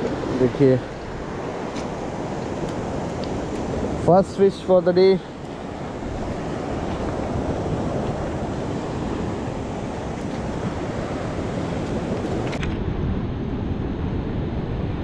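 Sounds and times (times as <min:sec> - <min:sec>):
sea surf: 0:00.0 - 0:15.0
wind buffeting microphone: 0:00.0 - 0:15.0.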